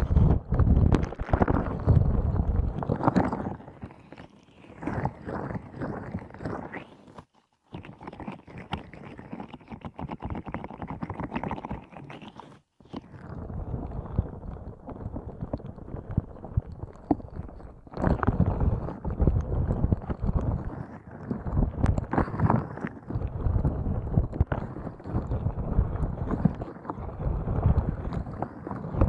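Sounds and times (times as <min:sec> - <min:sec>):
squeeze toy squishing: 0:00.0 - 0:29.0.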